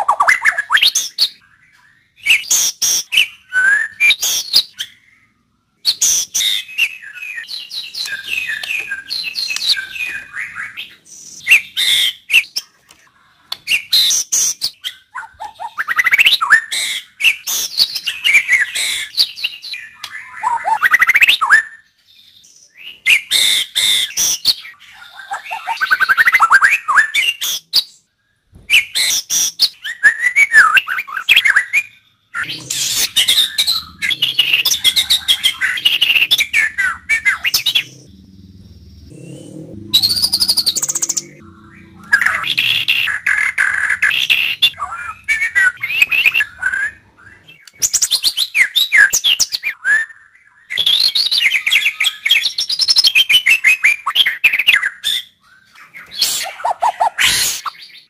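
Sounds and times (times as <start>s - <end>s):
bird singing whistles and trills: 0.0s - 12.8s, 13.6s - 58.0s.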